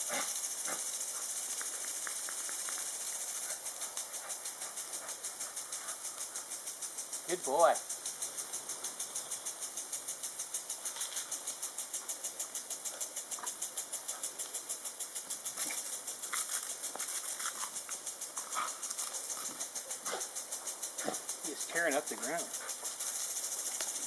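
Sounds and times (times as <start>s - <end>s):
sprinkler ticking and hissing: 0.0s - 24.0s.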